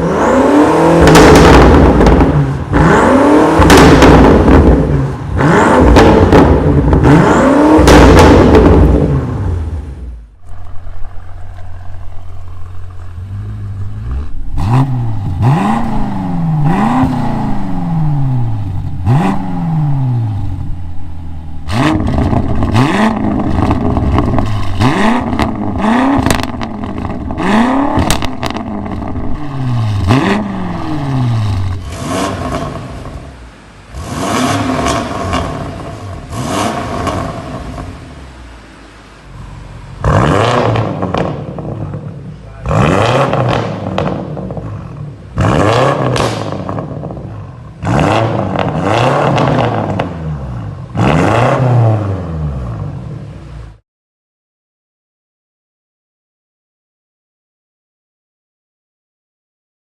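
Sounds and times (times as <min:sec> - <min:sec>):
car engine revving in blips: 0:00.0 - 0:53.8.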